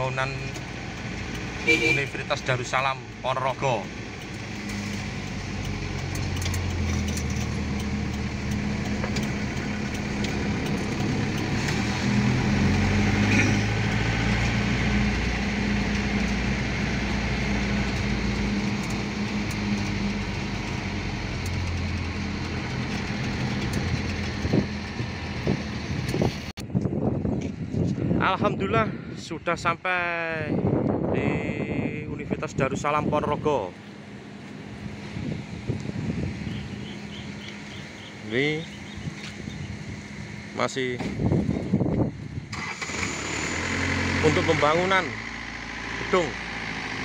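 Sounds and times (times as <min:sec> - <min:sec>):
vehicle engine running: 0:00.0 - 0:28.4, 0:30.6 - 0:47.0.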